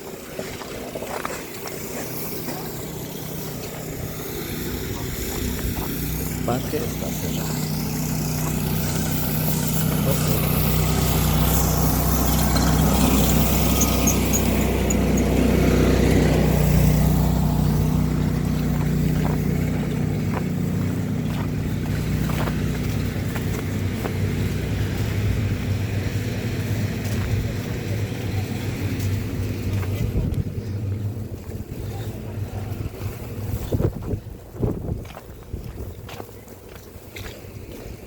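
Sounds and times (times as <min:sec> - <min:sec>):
street noise: 0:00.0 - 0:38.0
vehicle engine running: 0:00.0 - 0:38.0.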